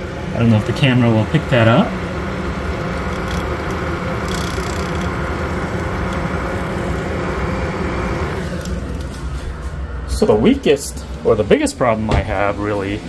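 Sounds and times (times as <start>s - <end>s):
furnace blower rushing air: 0.0s - 13.0s.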